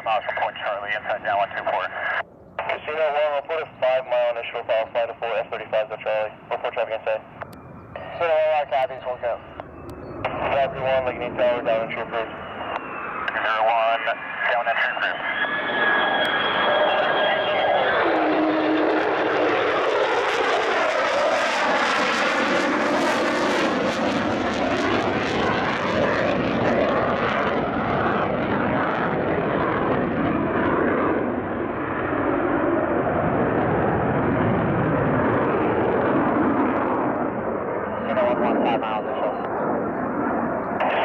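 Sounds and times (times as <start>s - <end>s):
fighter jet flying past: 0.0s - 41.0s.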